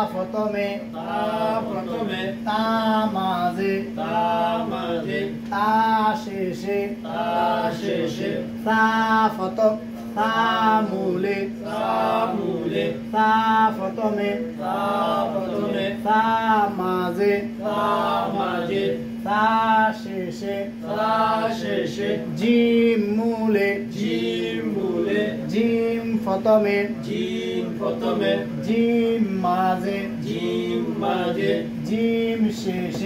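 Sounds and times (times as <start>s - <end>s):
man chanting: 0.0s - 33.0s
steady low hum: 0.0s - 33.0s.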